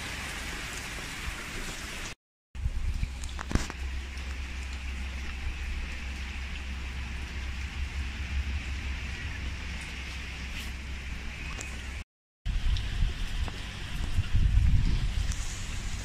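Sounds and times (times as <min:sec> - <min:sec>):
rain on wet street: 0:00.0 - 0:14.2
low rumble: 0:02.6 - 0:16.0.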